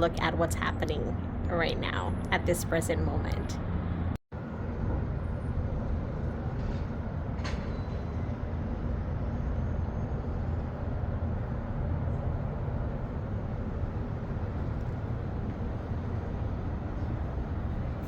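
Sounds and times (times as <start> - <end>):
low rumble of city traffic: 0.0 - 18.0.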